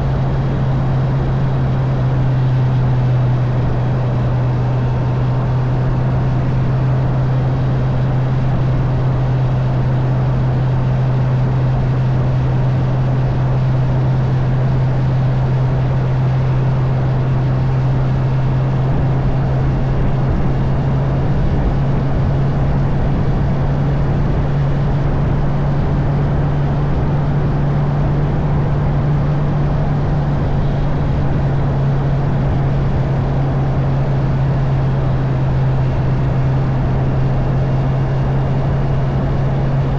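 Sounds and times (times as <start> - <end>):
motorcycle engine droning: 0.0 - 39.9
wind and road noise: 0.0 - 39.9.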